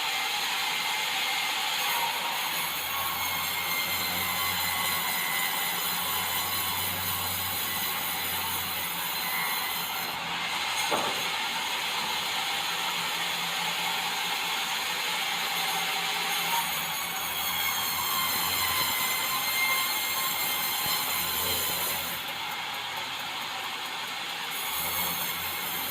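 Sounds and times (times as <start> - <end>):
sawmill hissing mechanical noise: 0.0 - 17.4, 18.0 - 25.9.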